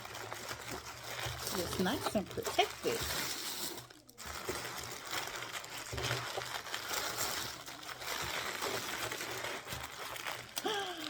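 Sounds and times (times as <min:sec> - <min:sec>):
packaging wrap crinkling: 0:00.0 - 0:11.0.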